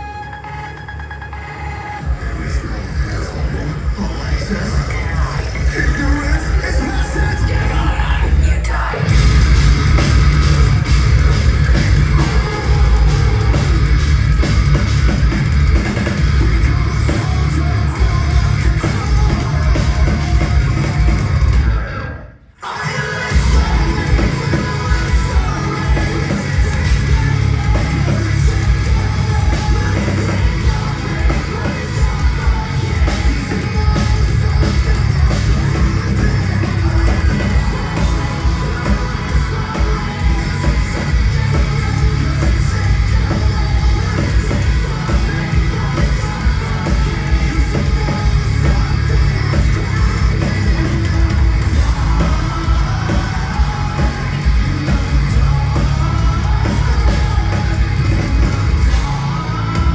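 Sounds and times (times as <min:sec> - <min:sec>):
metal band playing live: 0:00.0 - 0:59.9
person singing and yelling: 0:00.0 - 0:59.9.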